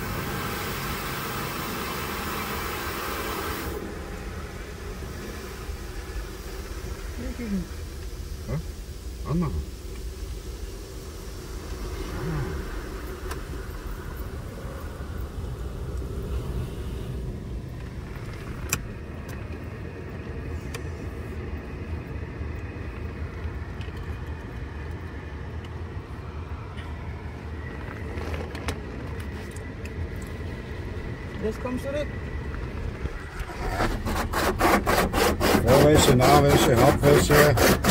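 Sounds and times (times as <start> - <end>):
low rumble inside car: 0.0 - 37.9.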